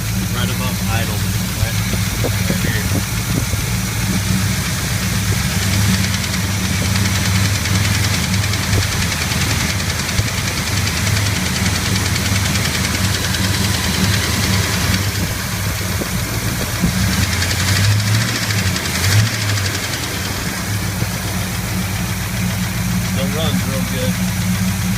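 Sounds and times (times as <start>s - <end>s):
car engine running just above idle: 0.0s - 24.9s
engine ticking tap: 0.0s - 24.9s.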